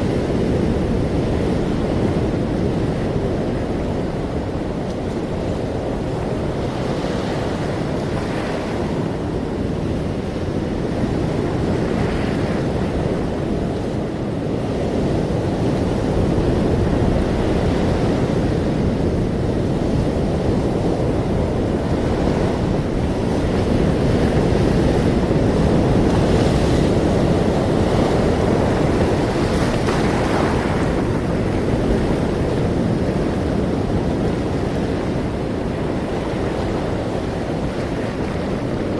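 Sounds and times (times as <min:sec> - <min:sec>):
ocean waves washing: 0:00.0 - 0:38.9.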